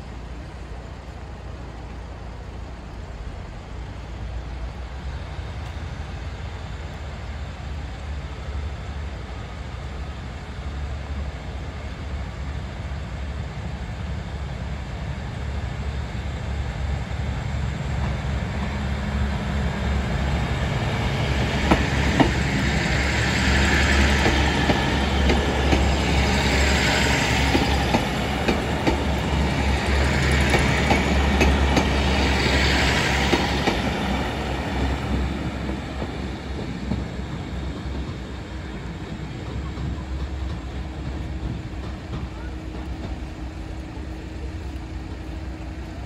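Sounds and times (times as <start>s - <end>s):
diesel train engine drone: 0.0s - 46.0s.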